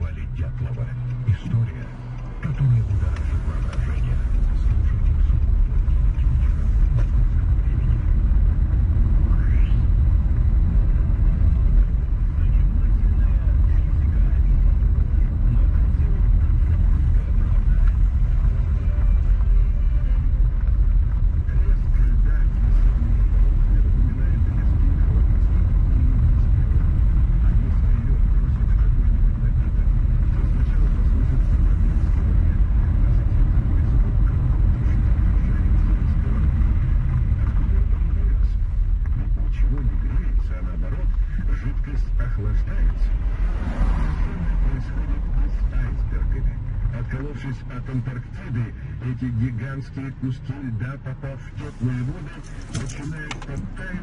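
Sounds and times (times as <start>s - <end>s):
vehicle rumbling: 0.0s - 54.0s.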